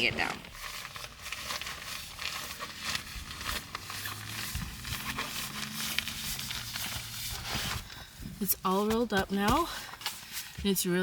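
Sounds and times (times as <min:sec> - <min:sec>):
fabric rustling and crackling: 0:00.0 - 0:11.0.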